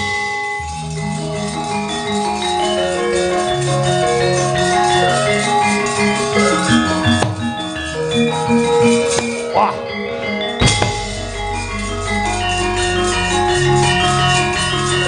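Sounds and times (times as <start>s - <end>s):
gamelan playing: 1.1s - 15.0s.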